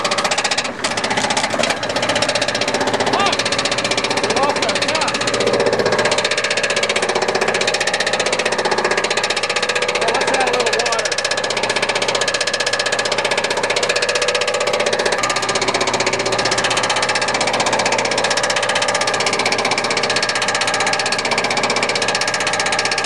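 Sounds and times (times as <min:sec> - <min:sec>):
diesel truck engine clatter: 0:00.0 - 0:23.0.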